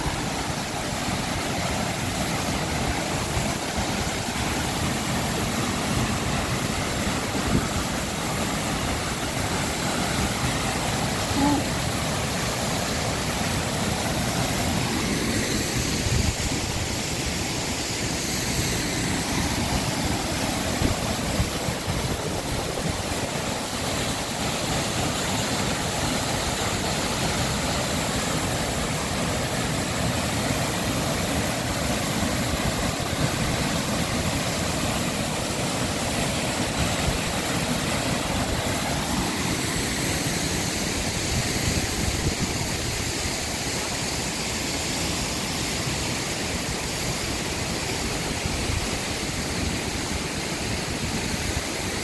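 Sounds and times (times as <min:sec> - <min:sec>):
creek running: 0:00.0 - 0:52.0
waterfall rushing onto rocks: 0:00.0 - 0:52.0.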